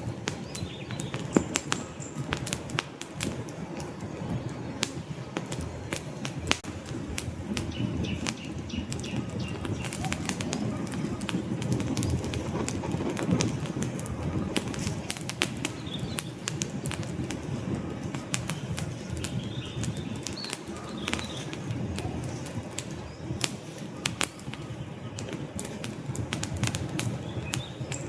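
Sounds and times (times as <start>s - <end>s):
logs crackling and popping: 0.0s - 28.0s
low flutter of flames: 0.0s - 28.0s.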